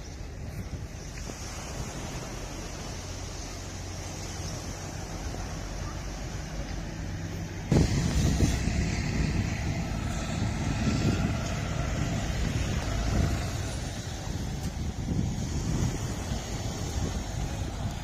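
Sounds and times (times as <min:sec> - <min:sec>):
wind rushing over microphone: 0:00.0 - 0:18.0
vehicle hum: 0:01.3 - 0:18.0.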